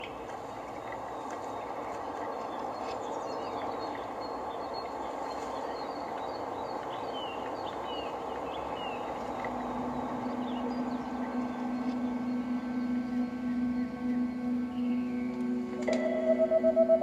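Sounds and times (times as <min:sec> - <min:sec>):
small birds chirping: 0:00.0 - 0:15.8
steady rushing noise: 0:00.0 - 0:16.0
low steady hum: 0:00.0 - 0:17.0.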